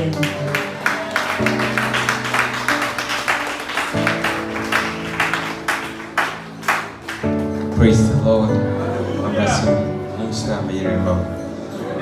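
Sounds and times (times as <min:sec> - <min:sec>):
church band music: 0:00.0 - 0:12.0.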